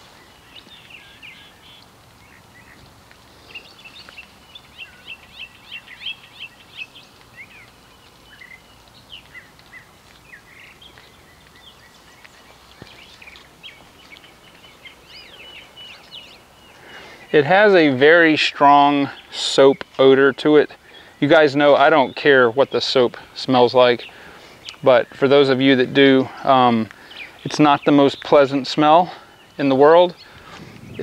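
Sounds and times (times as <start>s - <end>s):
faint outdoor noise: 0.0s - 31.0s
small birds chirping: 0.0s - 31.0s.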